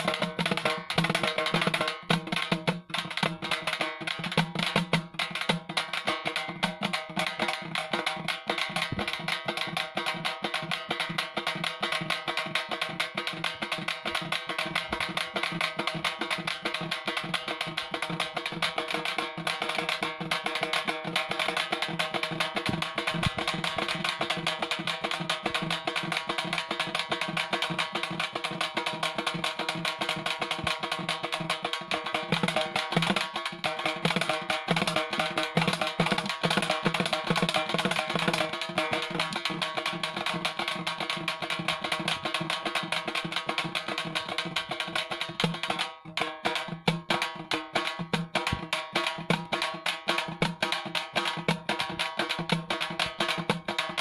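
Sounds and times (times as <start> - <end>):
frame drums struck with sticks: 0.0 - 54.0.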